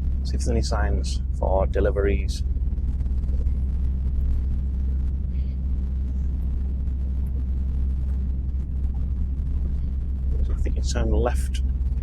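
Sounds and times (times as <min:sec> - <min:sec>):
truck cab low rumble: 0:00.0 - 0:12.0.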